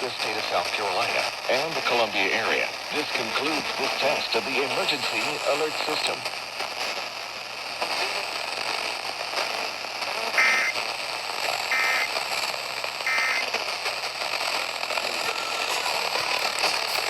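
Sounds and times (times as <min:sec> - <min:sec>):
radio hiss and crackle: 0:00.0 - 0:17.0.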